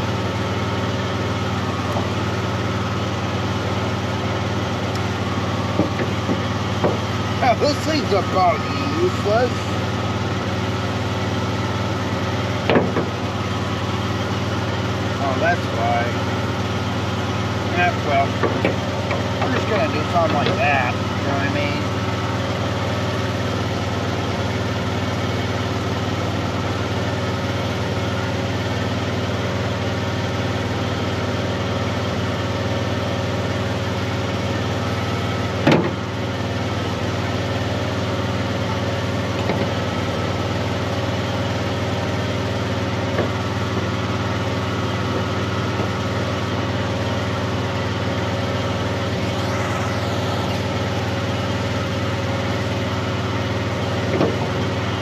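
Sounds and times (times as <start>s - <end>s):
welder engine running: 0.0s - 55.0s.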